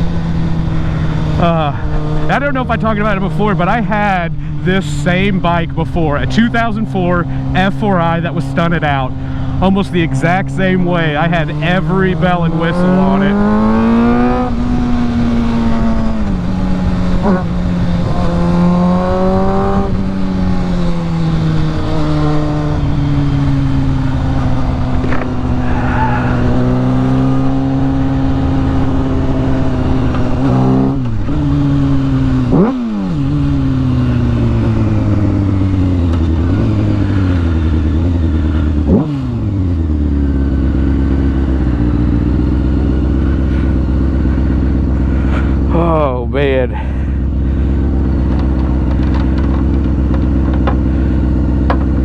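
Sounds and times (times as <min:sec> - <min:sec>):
sport bike engine revving: 0:00.0 - 0:52.0.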